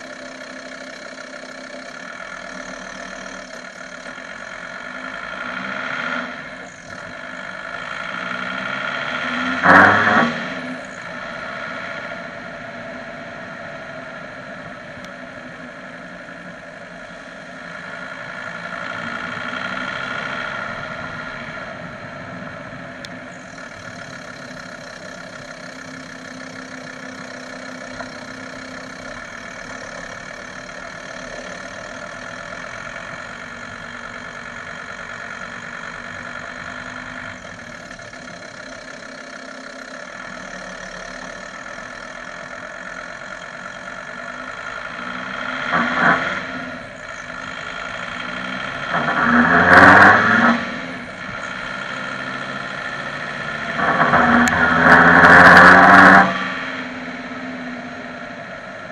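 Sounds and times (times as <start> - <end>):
diesel engine running: 0.0 - 58.9
road noise: 0.0 - 58.9.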